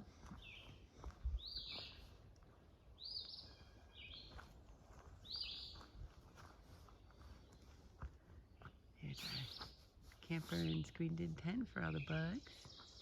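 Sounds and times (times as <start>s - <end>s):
songbird singing: 0.3s - 6.0s, 6.9s - 13.0s.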